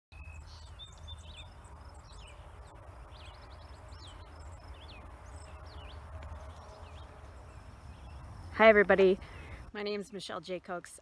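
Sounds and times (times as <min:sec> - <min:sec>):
birds singing and chirping: 0:00.2 - 0:10.5.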